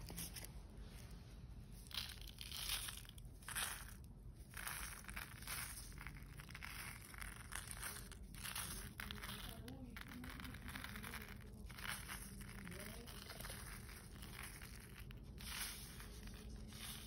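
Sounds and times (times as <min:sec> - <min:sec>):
seeds pouring onto surface: 0:01.8 - 0:17.0.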